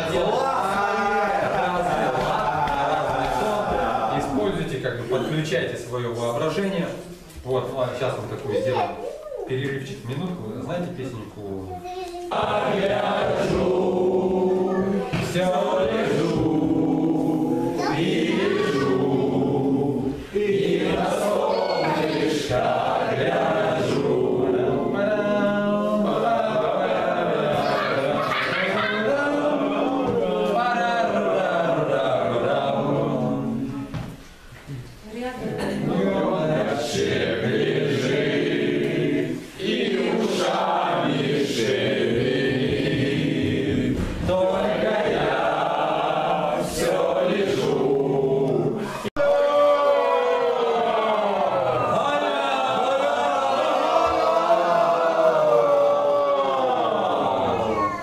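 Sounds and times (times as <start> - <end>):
group chanting held tones: 0.0 - 4.6, 12.3 - 34.1, 35.4 - 58.0.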